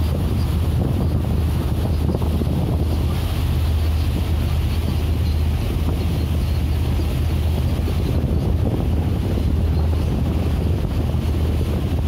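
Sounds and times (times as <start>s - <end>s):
motorboat engine droning: 0.0s - 12.0s
wind buffeting microphone: 0.0s - 12.0s.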